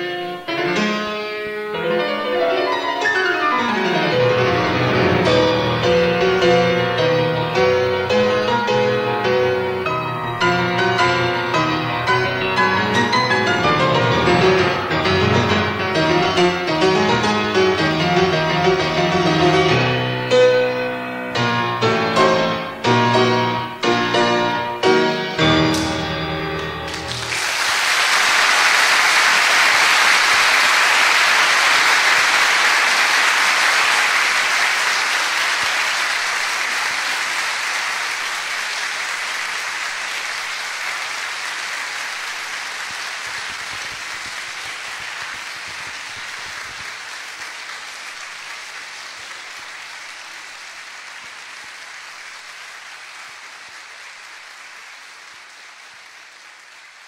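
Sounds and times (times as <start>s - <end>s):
audience applauding: 2.8s - 19.8s, 25.7s - 57.0s.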